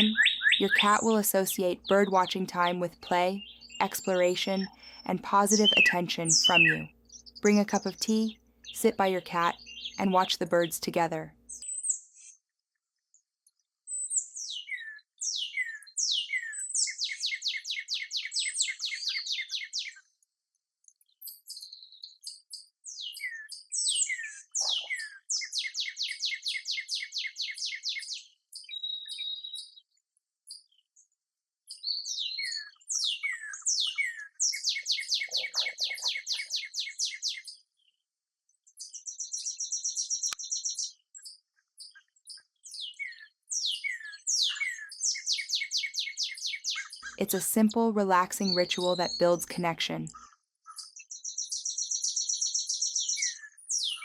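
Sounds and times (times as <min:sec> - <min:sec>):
songbird singing: 0:00.0 - 0:12.4, 0:13.9 - 0:20.1, 0:21.0 - 0:31.0, 0:31.7 - 0:38.0, 0:38.7 - 0:54.0.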